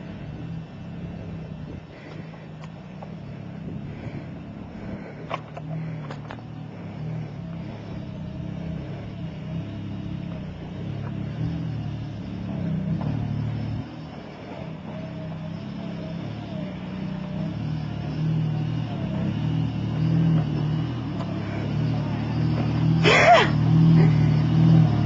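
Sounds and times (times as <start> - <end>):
truck engine at low revs: 0.0 - 25.0.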